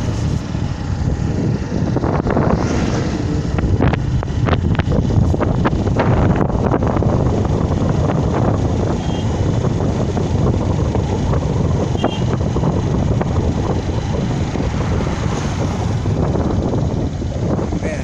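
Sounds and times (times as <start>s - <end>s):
moving vehicle running: 0.0s - 18.0s
wind buffeting microphone: 0.0s - 18.0s.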